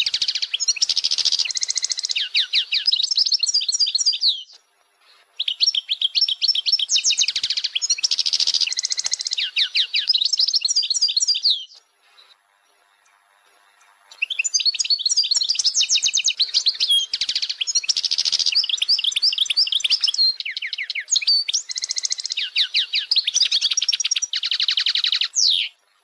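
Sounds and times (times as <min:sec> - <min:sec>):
goldfinch singing: 0:00.0 - 0:04.6, 0:05.4 - 0:12.3, 0:13.0 - 0:25.8.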